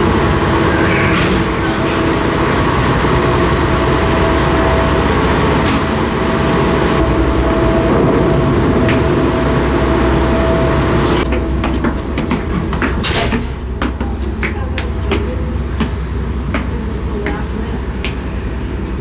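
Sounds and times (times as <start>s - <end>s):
constant hum: 0.0s - 19.0s
ship engines low drone: 0.0s - 19.0s.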